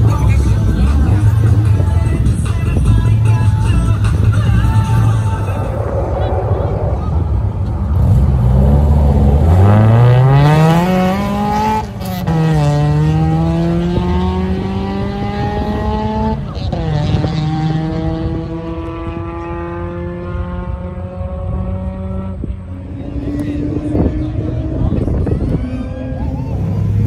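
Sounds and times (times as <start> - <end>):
car engine accelerating: 3.2 - 27.0.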